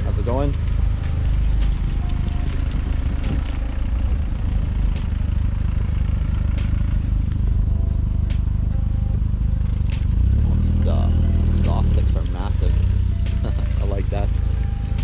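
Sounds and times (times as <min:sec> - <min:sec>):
car engines rumbling: 0:00.0 - 0:15.0.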